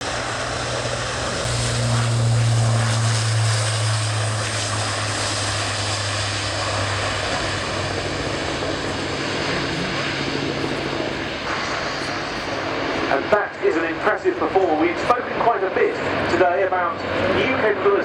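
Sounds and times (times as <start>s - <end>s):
turboprop engines droning: 0.0s - 18.0s.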